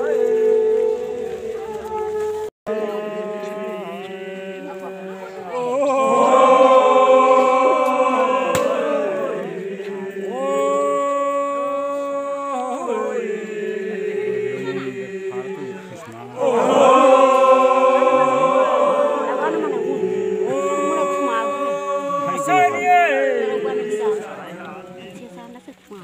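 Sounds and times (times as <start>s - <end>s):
group chanting held notes: 2.7s - 25.6s.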